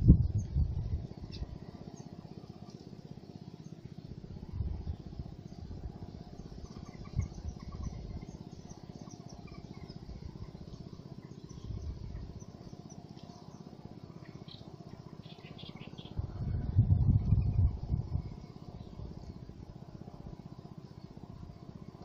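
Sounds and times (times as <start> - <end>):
steady low rumble: 0.0 - 3.3, 3.9 - 22.0
small birds chirping: 0.1 - 16.2, 16.8 - 22.0.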